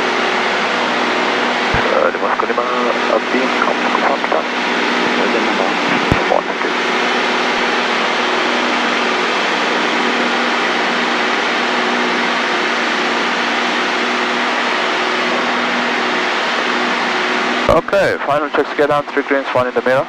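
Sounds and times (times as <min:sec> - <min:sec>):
aircraft engine and propeller drone: 0:00.0 - 0:20.0.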